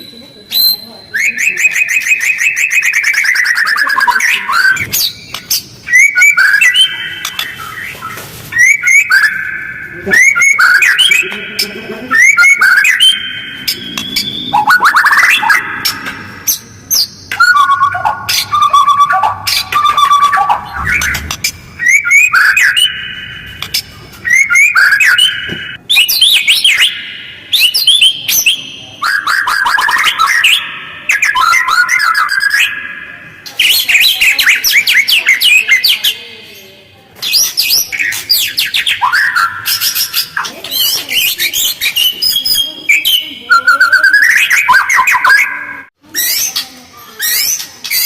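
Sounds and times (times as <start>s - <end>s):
bird singing whistles and chatter: 0.0s - 48.0s.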